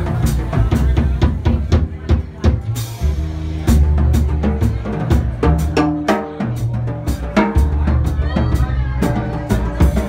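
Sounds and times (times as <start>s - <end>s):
double bass low notes: 0.0s - 10.0s
drum kit: 0.0s - 10.0s.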